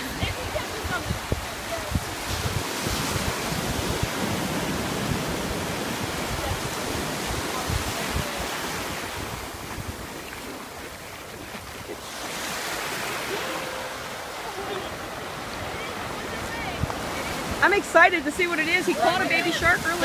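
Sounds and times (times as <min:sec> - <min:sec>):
ocean surf breaking: 0:00.0 - 0:11.0, 0:11.8 - 0:20.0
wind buffeting microphone: 0:00.0 - 0:20.0.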